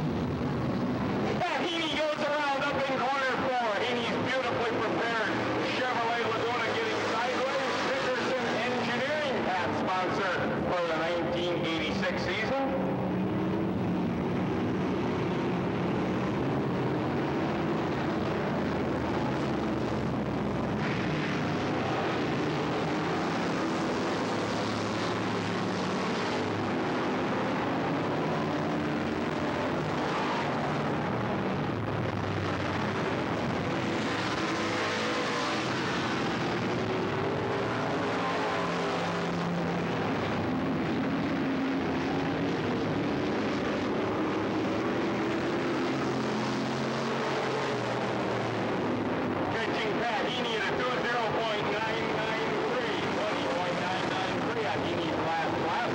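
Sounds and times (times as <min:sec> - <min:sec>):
stock car engines racing: 0:00.0 - 0:55.9.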